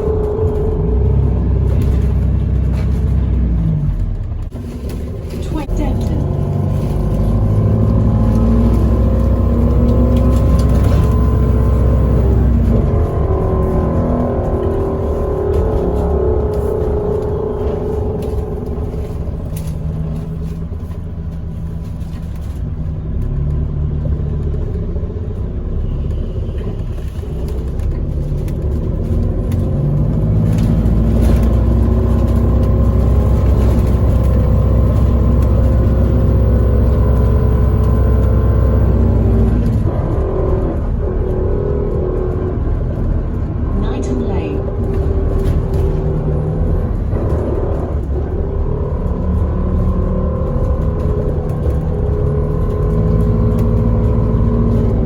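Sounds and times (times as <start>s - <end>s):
faint engine whine: 0.0s - 23.6s, 24.6s - 55.0s
bus engine rumble: 0.0s - 55.0s
road noise: 0.0s - 55.0s.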